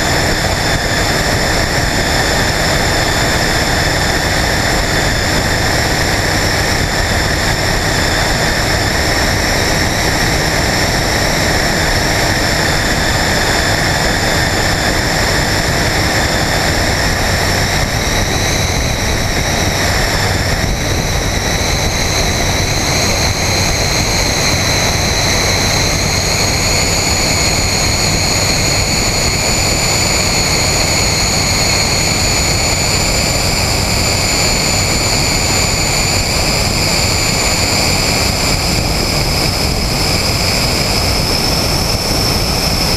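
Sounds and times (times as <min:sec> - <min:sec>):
high whine: 0:00.0 - 0:42.9
light aircraft engine and propeller: 0:00.0 - 0:42.9
wind rushing over microphone: 0:00.0 - 0:42.9.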